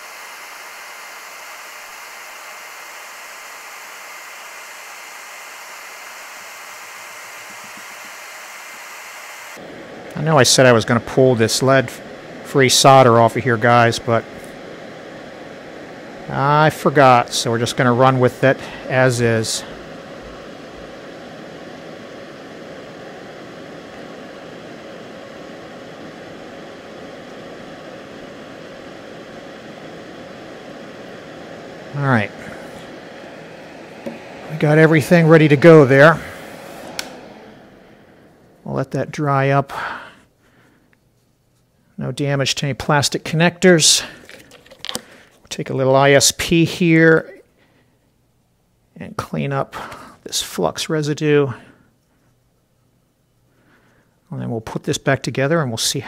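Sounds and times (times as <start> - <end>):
steady hiss: 0.0 - 47.7
faint constant hum: 9.6 - 56.0.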